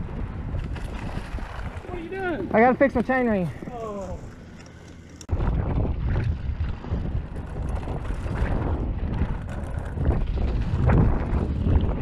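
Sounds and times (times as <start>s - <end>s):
wind buffeting microphone: 0.0s - 4.3s, 5.3s - 12.0s.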